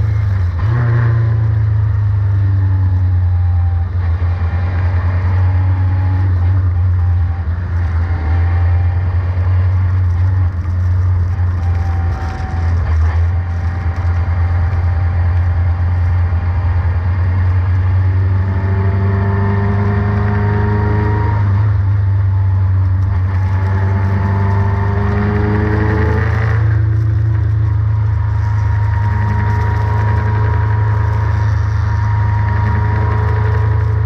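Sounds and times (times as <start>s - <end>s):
engine revving through gears: 0.0s - 21.9s, 23.0s - 34.0s
race car engine at speed: 0.0s - 34.0s.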